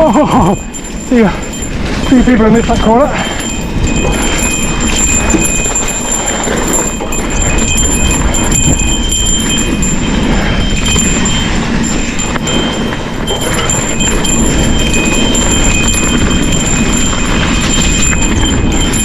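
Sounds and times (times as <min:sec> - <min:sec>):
bike rattling on rough trail: 0:00.0 - 0:19.0
cow bell clanking: 0:00.0 - 0:19.0
tyre and trail noise: 0:00.0 - 0:19.0.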